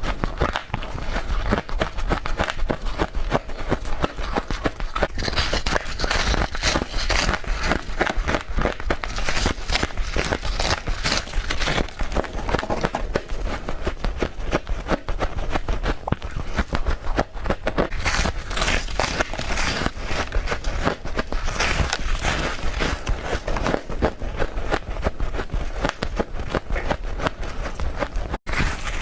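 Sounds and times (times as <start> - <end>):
frost crunching: 0.0 - 14.9, 15.5 - 24.5.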